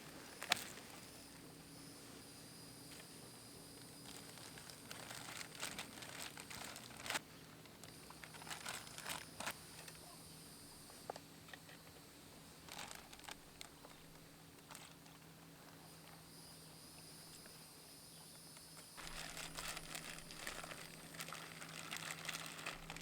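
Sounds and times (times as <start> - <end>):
faint rustling and crinkling: 0.0 - 23.0
low steady hum: 0.0 - 23.0.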